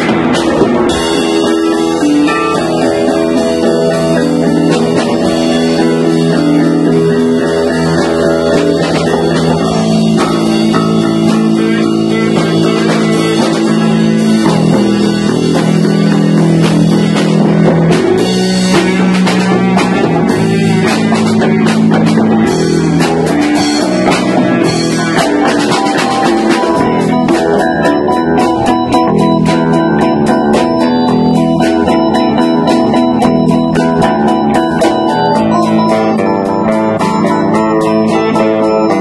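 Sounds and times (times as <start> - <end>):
bass guitar: 0.0 - 39.0
drum kit and cymbals: 0.0 - 39.0
electric guitar chords: 0.0 - 39.0.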